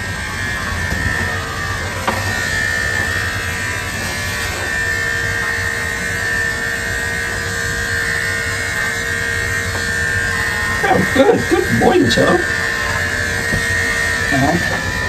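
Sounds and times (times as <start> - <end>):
electric dog clipper buzzing: 0.0 - 15.0.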